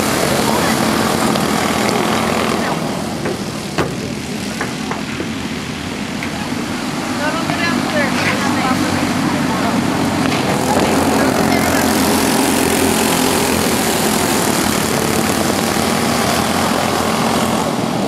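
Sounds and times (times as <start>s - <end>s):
go-kart engines racing: 0.0s - 18.0s.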